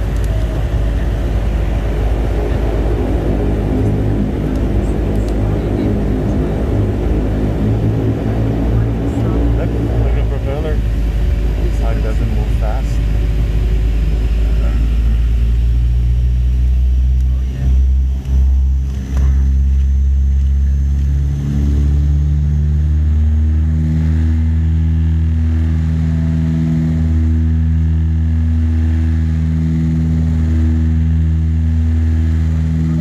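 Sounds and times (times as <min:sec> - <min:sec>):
deep propeller engine drone: 0:00.0 - 0:33.0
faint high turbine whine: 0:00.0 - 0:33.0.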